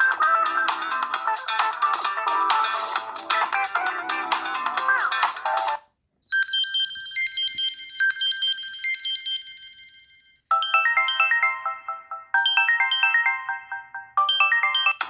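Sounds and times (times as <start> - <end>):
busy ringtone tune: 0.0 - 15.0
ringtone melody with quick notes: 0.0 - 15.0.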